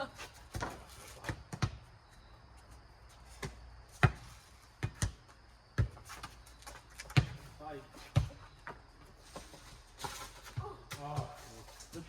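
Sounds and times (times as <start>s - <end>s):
rubber ball bouncing on pavement: 0.4s - 2.0s, 3.3s - 11.4s.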